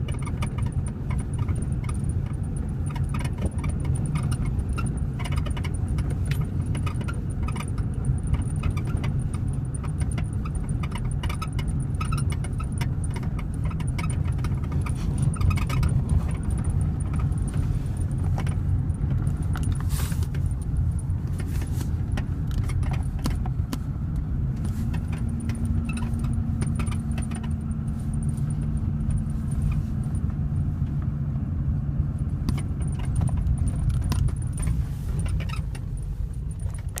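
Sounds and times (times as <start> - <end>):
clicks and squeaks in cab: 0.0 - 31.2, 32.0 - 37.0
diesel engine idling: 0.0 - 37.0.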